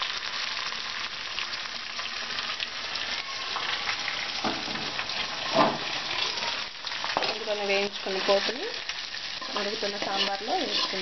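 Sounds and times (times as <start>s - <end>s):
frying in hot oil sizzling: 0.0s - 11.0s.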